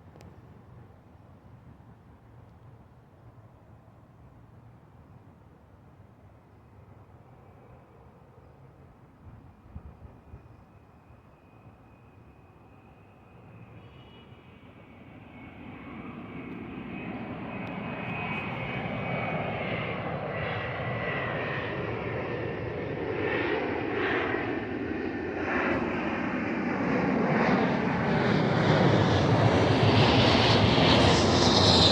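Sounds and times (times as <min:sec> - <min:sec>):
airplane engine rumble: 0:00.0 - 0:31.9
faint engine whine: 0:00.0 - 0:31.9.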